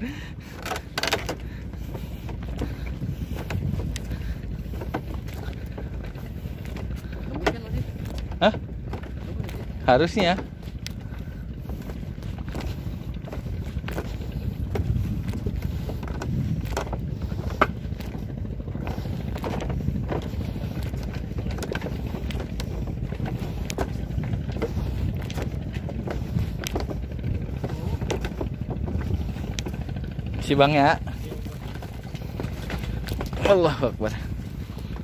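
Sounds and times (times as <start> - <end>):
footsteps on bamboo slats: 0.0 - 35.0
low rumble: 0.0 - 35.0
bamboo creaking: 0.4 - 35.0.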